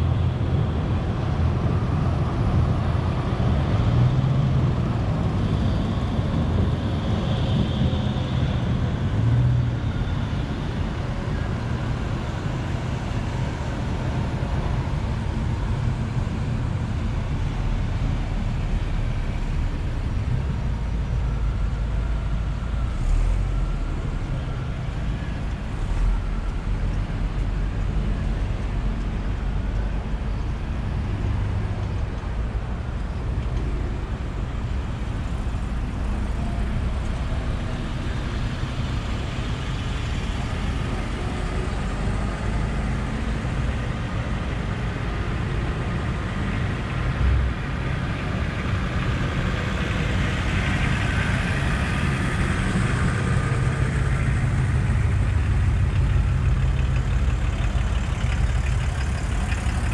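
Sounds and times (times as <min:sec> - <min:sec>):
cars driving past: 0:00.0 - 0:59.9.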